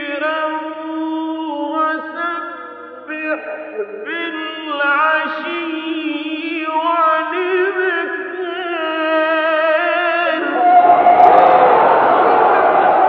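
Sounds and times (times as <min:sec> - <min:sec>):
man chanting melodically: 0:00.0 - 0:10.7.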